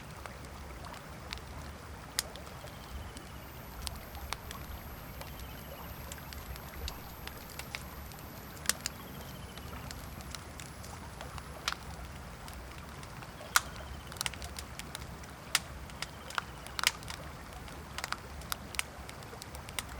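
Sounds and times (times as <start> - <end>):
campfire crackling and popping: 0.0 - 19.9.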